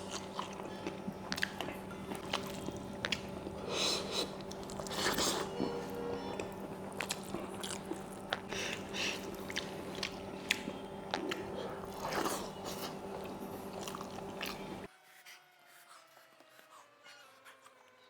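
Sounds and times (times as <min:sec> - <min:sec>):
chewing and biting: 0:00.0 - 0:14.9
low hum: 0:00.0 - 0:14.9.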